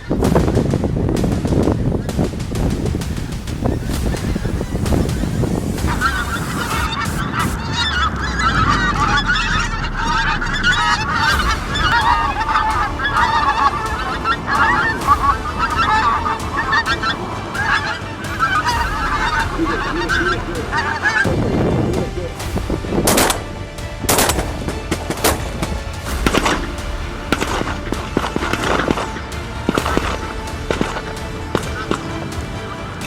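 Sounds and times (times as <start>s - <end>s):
wind rumbling on microphone: 0.0s - 29.8s
geese honking: 0.0s - 33.0s.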